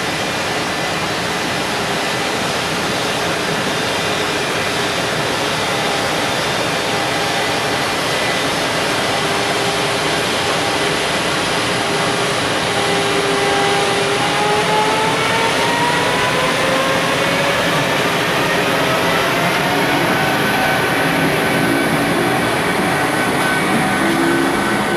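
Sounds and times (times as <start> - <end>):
electric locomotive motor whine: 0.0 - 24.9.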